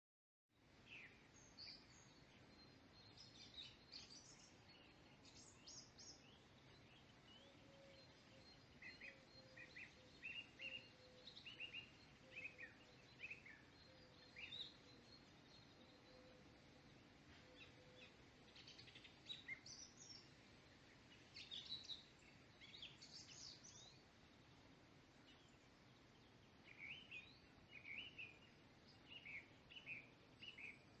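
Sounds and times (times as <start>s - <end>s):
birds chirping and trilling: 0.6s - 31.0s
low steady hiss: 0.6s - 31.0s.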